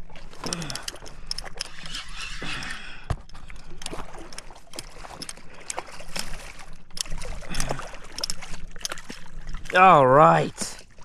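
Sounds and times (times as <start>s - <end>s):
fish thrashing and splashing: 0.0s - 11.0s.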